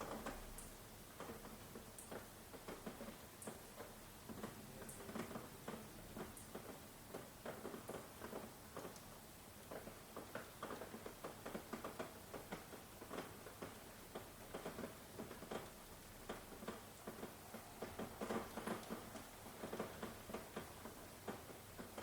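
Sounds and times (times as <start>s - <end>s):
faint rain hiss: 0.0s - 22.0s
raindrops pattering on surface: 0.0s - 22.0s.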